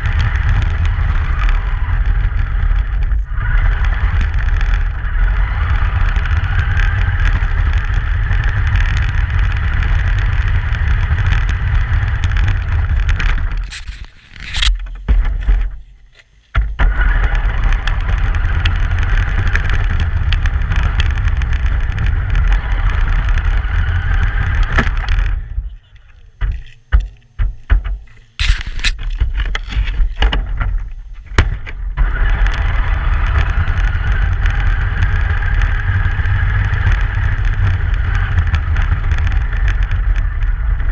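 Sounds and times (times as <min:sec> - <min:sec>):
truck road and wind rumble: 0:00.0 - 0:15.8, 0:16.8 - 0:25.8, 0:28.4 - 0:40.9.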